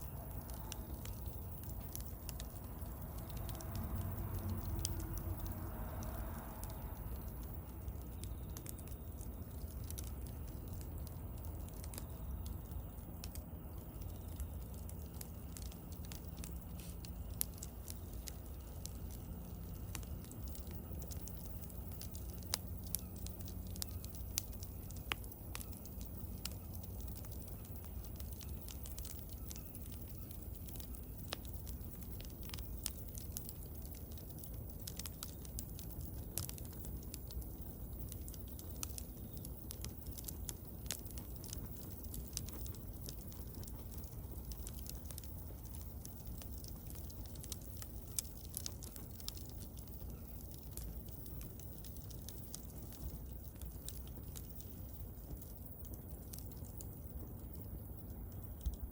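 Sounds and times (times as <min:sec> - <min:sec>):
bonfire crackling and popping: 0:00.0 - 0:58.9
steady low rumble: 0:00.0 - 0:58.9.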